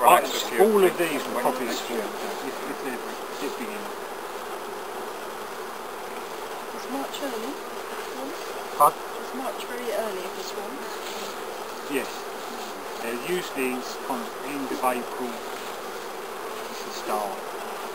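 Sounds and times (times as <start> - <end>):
honeybees buzzing: 0.0 - 17.9.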